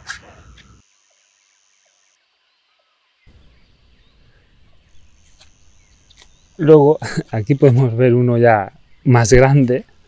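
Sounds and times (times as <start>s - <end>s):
faint garden ambience: 0.0s - 10.0s.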